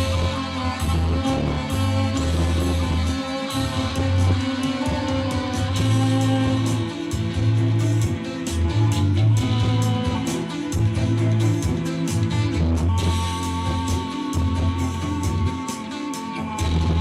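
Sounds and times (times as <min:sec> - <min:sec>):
bass guitar: 0:00.0 - 0:17.0
guitar: 0:00.0 - 0:17.0
steady drum beat: 0:00.0 - 0:17.0.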